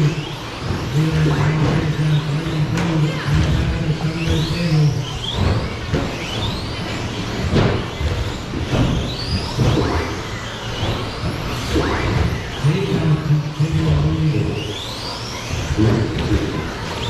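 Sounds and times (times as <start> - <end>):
rc truck motors whining: 0.0 - 17.0.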